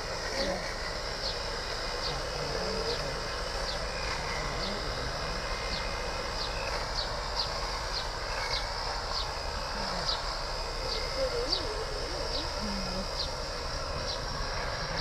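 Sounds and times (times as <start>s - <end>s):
background hiss: 0.0s - 15.0s
small bird chirping: 0.2s - 15.0s.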